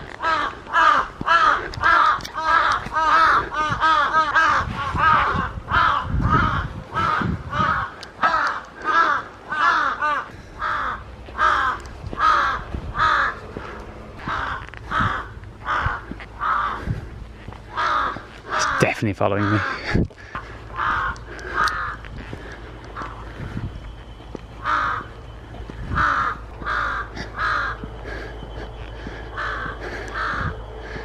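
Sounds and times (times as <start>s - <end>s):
crows cawing harshly: 0.0s - 23.6s, 24.5s - 31.0s.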